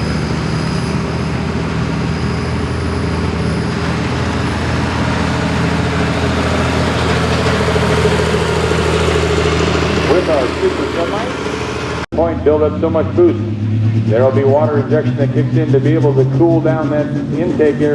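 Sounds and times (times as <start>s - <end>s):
diesel truck engine at low revs: 0.0s - 17.9s.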